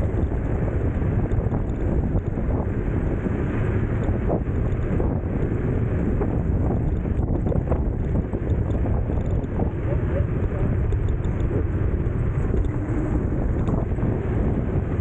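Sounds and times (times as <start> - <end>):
tyre and road noise: 0.0 - 15.0
wind rumble on microphone: 0.0 - 15.0.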